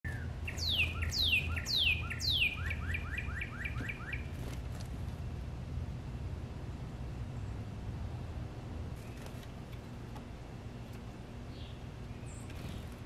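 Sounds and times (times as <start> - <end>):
songbird singing: 0.0 - 4.9, 6.6 - 13.0.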